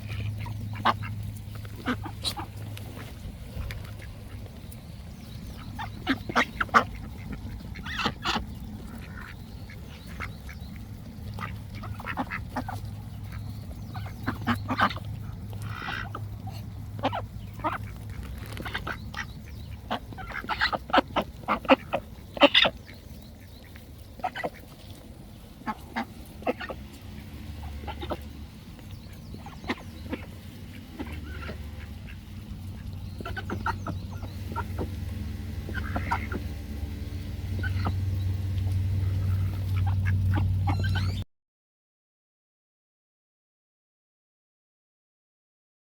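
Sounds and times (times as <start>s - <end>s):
ducks quacking: 0.0s - 41.2s
steady low hum: 0.0s - 41.2s.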